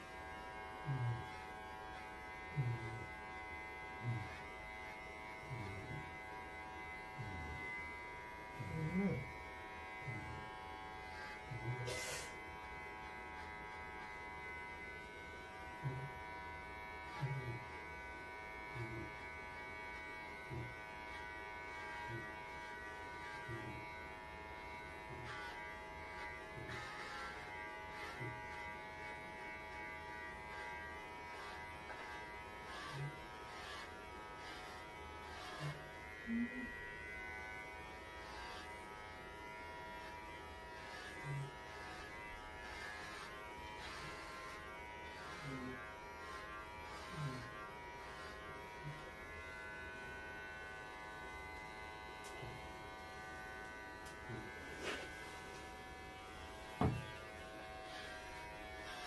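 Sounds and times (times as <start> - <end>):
electric clippers buzzing: 0.0 - 59.0.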